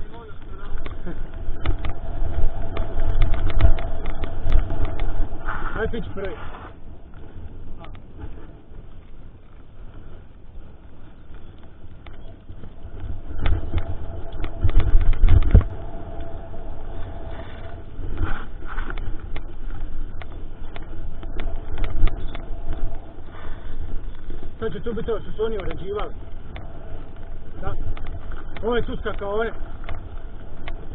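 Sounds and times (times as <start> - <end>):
wind rumbling on microphone: 0.0 - 30.9.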